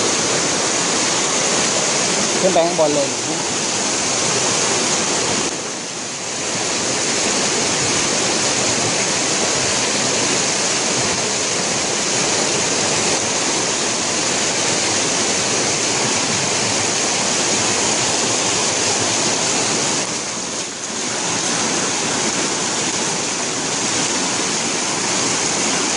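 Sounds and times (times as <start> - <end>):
floodwater rushing: 0.0 - 25.9
heavy rain: 0.0 - 25.9.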